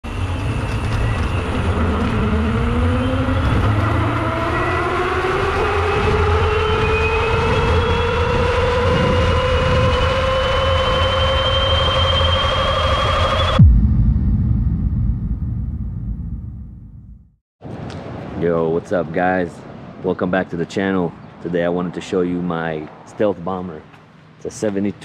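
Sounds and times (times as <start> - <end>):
wind: 0.0 - 15.1, 17.6 - 25.0.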